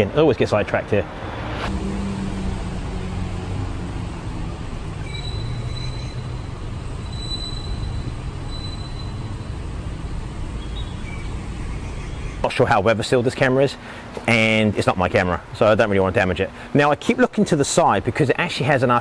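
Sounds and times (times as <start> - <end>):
low street rumble: 0.0 - 18.3.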